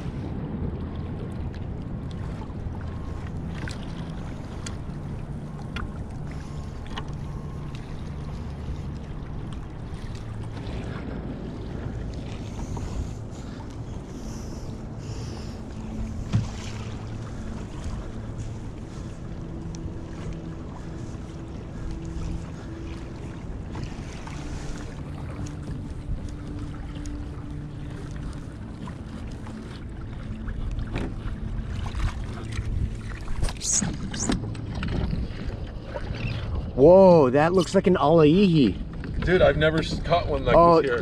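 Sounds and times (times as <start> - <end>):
wind on microphone: 0.0 - 36.8
water lapping against hull: 0.0 - 41.0.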